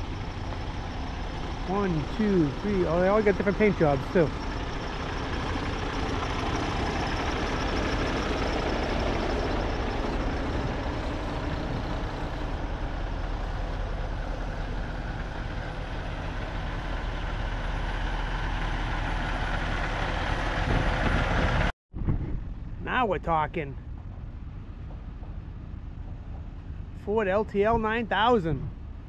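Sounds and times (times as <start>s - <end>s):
diesel trucks idling: 0.0s - 21.7s, 22.4s - 29.0s.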